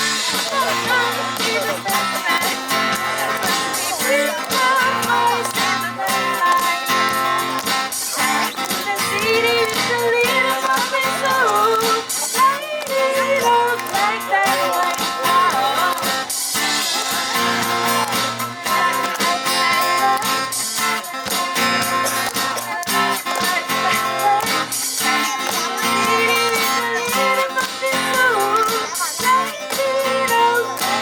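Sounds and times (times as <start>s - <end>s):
live band playing pop song: 0.0s - 31.0s
woman singing: 0.0s - 31.0s.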